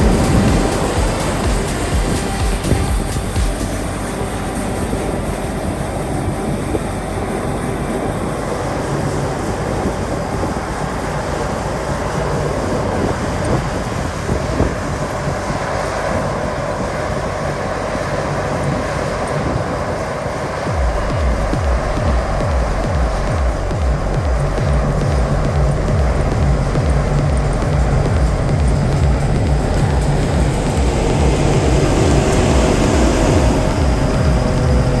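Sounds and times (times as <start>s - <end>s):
harvester engine and machinery: 0.0s - 35.0s.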